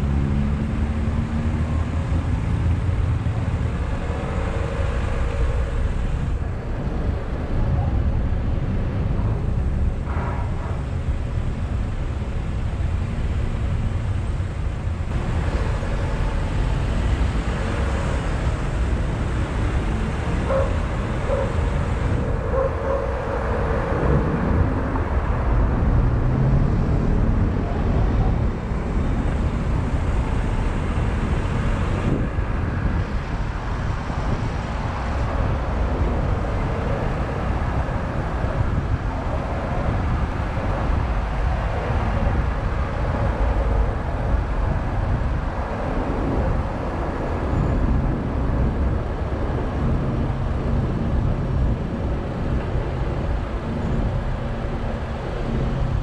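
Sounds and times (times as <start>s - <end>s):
car engine and road rumble: 0.0s - 56.0s
surrounding traffic: 0.0s - 56.0s.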